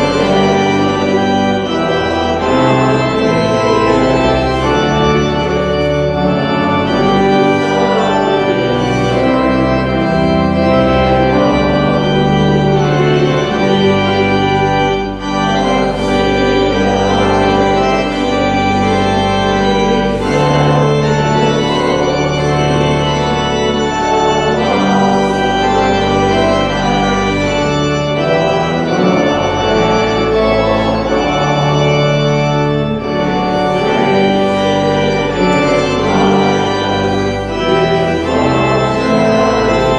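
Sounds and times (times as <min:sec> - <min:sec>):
church organ chords: 0:00.0 - 0:39.9.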